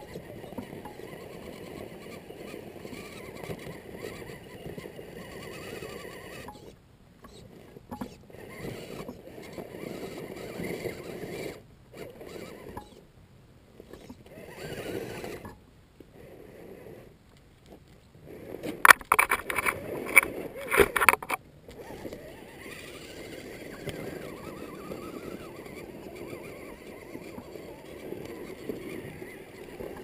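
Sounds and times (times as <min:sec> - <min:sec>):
electric motor and gears whining: 0:00.0 - 0:13.0, 0:13.8 - 0:15.6, 0:18.3 - 0:30.0.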